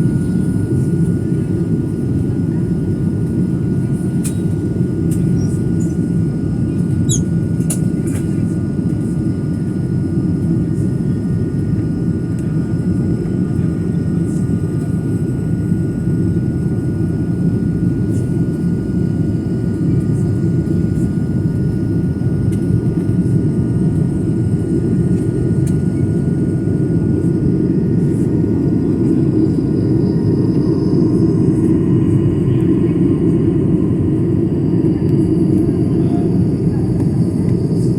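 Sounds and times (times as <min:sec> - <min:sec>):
airliner engine rumble: 0:00.0 - 0:37.9.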